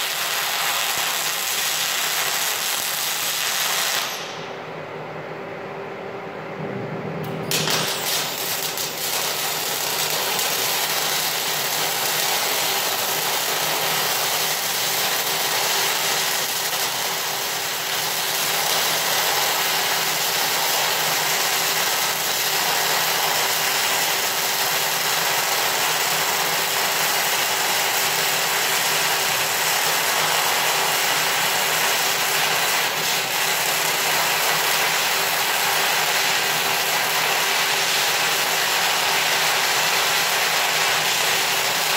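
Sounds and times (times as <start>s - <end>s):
welding arc hissing: 0.0s - 4.4s, 7.5s - 41.9s.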